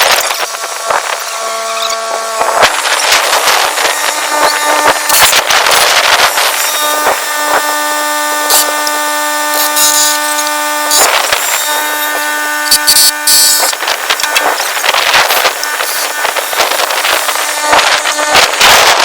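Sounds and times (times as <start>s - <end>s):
power drill motor running: 0.0s - 19.0s.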